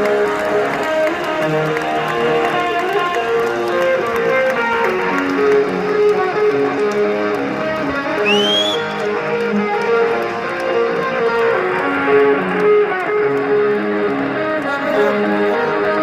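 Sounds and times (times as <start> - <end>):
electric guitar melody: 0.0 - 16.0.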